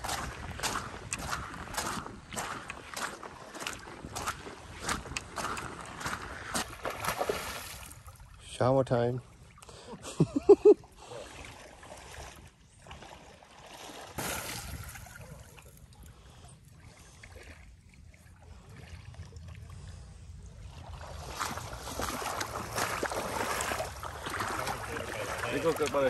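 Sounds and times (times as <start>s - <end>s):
river water splashing: 0.0s - 8.4s, 9.2s - 26.0s.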